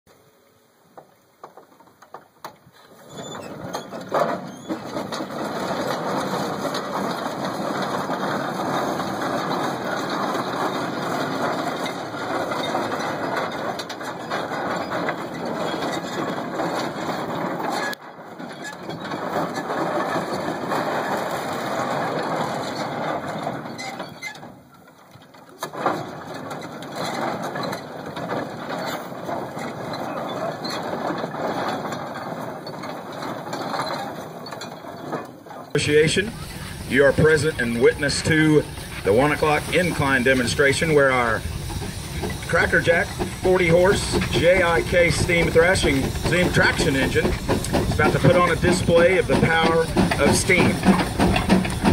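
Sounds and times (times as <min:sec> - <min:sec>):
steam traction engine clattering: 0:01.0 - 0:51.9.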